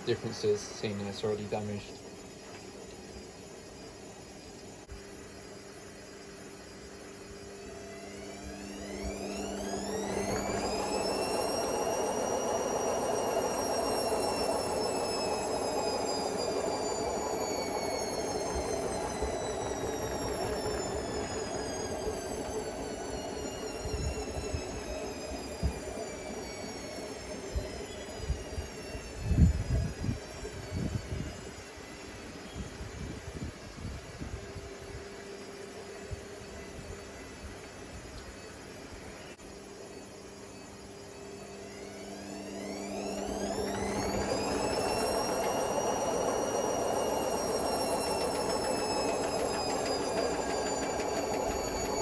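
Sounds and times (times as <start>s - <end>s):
washing machine motor whine: 0.0s - 52.0s.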